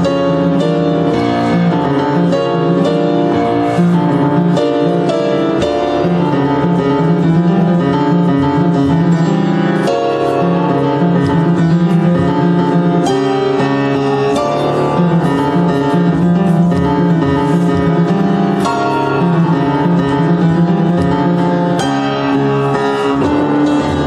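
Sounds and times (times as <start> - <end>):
upright piano playing: 0.0 - 24.0.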